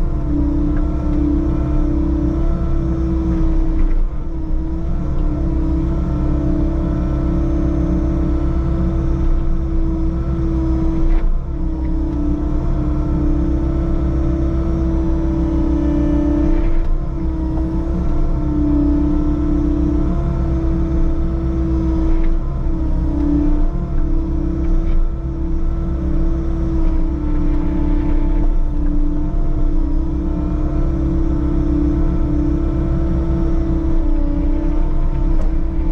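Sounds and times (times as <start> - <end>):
diesel engine running: 0.0 - 35.9
strong steady hum: 0.0 - 35.9.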